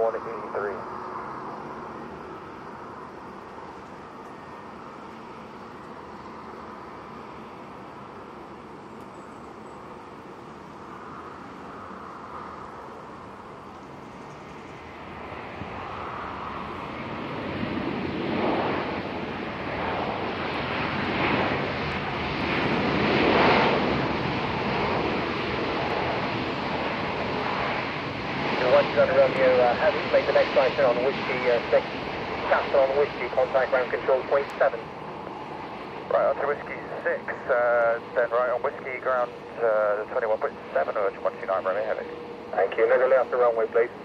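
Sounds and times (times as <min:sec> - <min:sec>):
jet airliner engine roar: 0:00.0 - 0:44.0.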